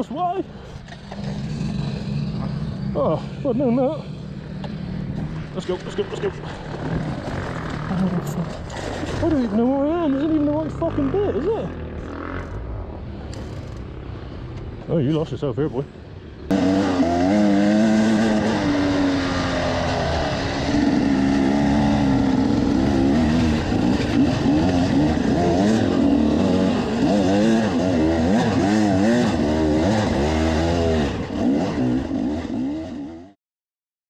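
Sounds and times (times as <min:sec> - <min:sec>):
dirt bike engines revving: 0:00.0 - 0:33.4.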